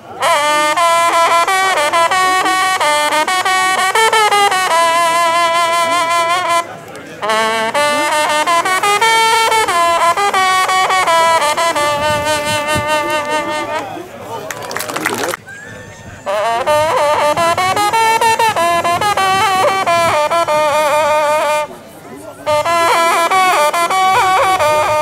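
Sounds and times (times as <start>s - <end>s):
hunting horn fanfare: 0.1s - 14.1s, 16.3s - 21.7s, 22.4s - 25.0s.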